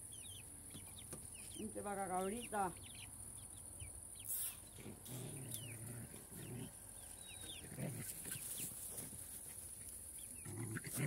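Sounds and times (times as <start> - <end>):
high chirps of small birds: 0.0 - 10.6.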